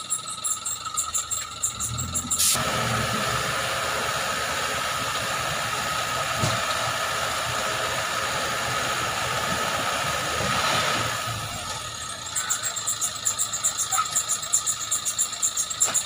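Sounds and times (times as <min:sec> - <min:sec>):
hydraulic pump whine: 0:00.0 - 0:16.0
truck engine at raised revs: 0:00.0 - 0:16.0.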